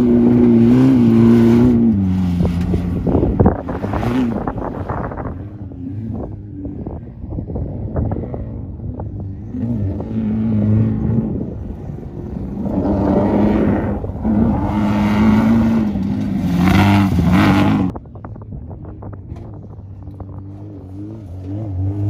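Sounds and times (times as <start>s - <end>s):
buggy engine passing: 0.0s - 18.0s.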